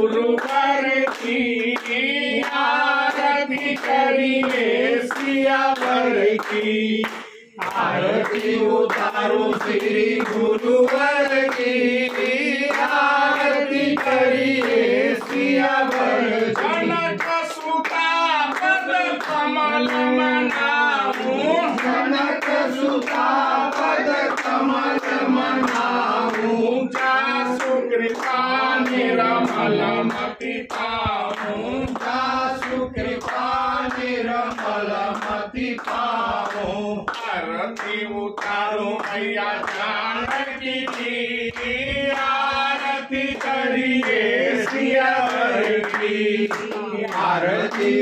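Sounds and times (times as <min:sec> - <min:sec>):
group singing a hymn: 0:00.0 - 0:48.0
hand-clapping: 0:00.0 - 0:48.0.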